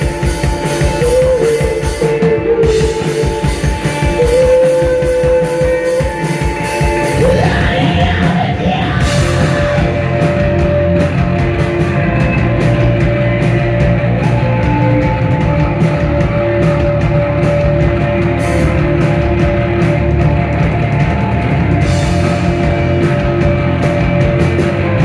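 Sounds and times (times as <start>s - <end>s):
distorted guitars: 0.0s - 25.0s
heavy drums: 0.0s - 25.0s.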